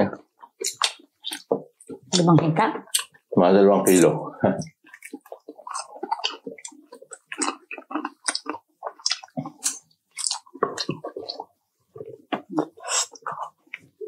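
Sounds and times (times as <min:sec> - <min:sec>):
chewing fried chicken: 0:00.3 - 0:03.2, 0:04.6 - 0:14.0.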